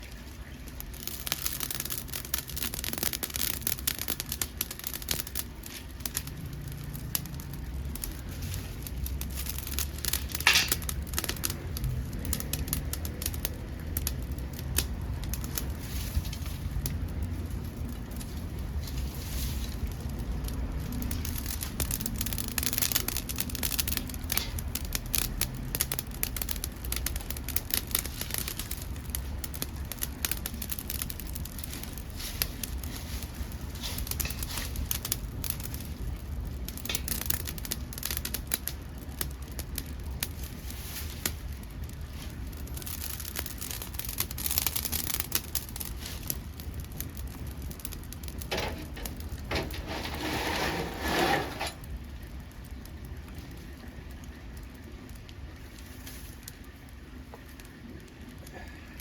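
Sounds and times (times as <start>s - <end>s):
stove low rumble: 0.0s - 59.0s
wood crackling and popping: 0.0s - 59.0s.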